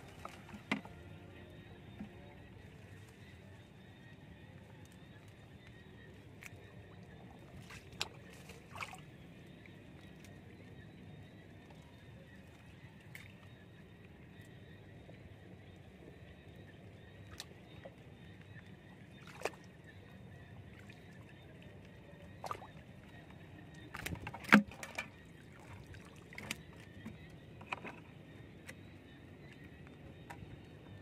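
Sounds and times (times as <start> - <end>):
light water splashes: 0.0 - 30.5.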